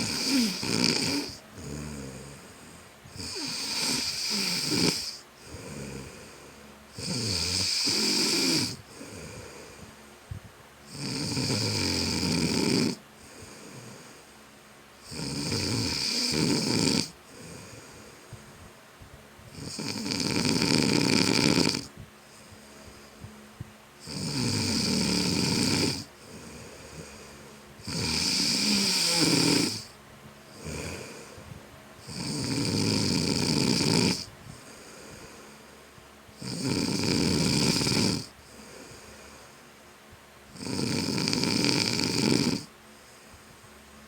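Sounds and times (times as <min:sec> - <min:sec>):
person snoring: 0:00.0 - 0:09.9, 0:10.9 - 0:14.2, 0:15.0 - 0:18.2, 0:19.5 - 0:23.2, 0:24.0 - 0:29.9, 0:30.5 - 0:31.4, 0:32.0 - 0:35.7, 0:36.4 - 0:39.6, 0:40.5 - 0:42.7
quiet breathing: 0:00.0 - 0:11.4, 0:13.0 - 0:20.6, 0:21.4 - 0:40.6, 0:41.3 - 0:44.0.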